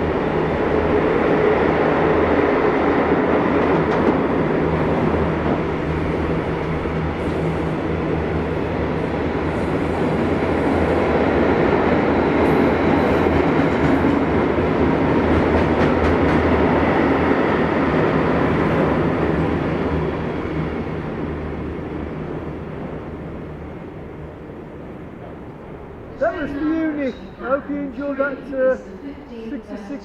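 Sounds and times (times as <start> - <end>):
freight wagons rumbling on rails: 0.0 - 29.6
diesel locomotive engine drone: 0.0 - 30.0.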